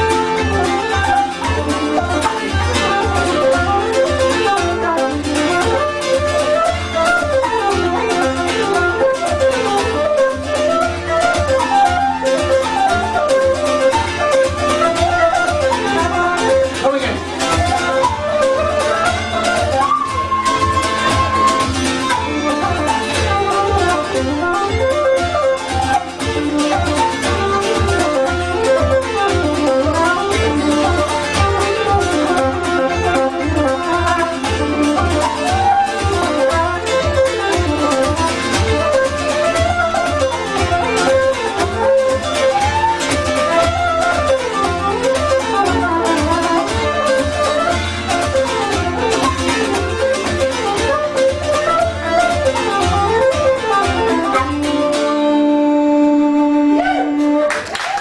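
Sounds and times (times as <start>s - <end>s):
bouzouki strumming: 0.0s - 58.0s
uilleann pipes: 0.0s - 58.0s
wooden flute melody: 0.0s - 58.0s.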